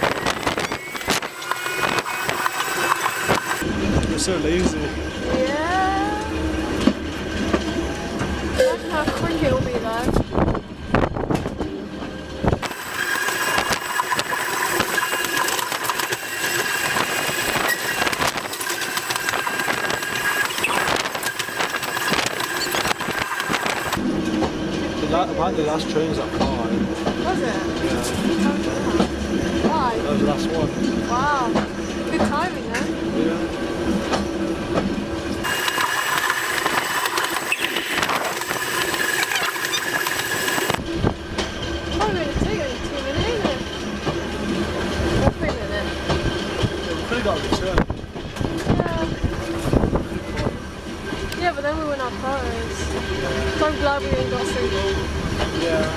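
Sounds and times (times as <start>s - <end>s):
electric railway car whine: 0.0s - 55.9s
rattle of wheels and bodywork: 0.0s - 55.9s.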